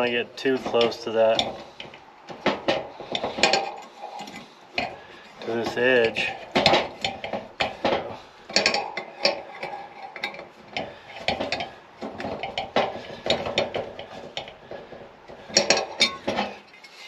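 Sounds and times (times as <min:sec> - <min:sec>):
tools and steel parts clinking: 0:00.0 - 0:17.0.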